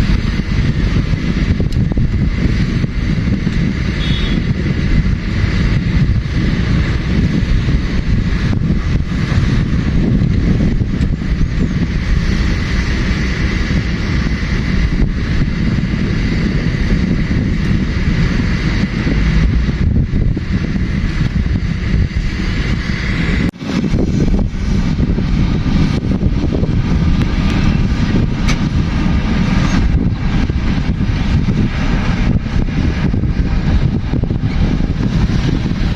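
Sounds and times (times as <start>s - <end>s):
diesel construction machinery running: 0.0s - 35.9s.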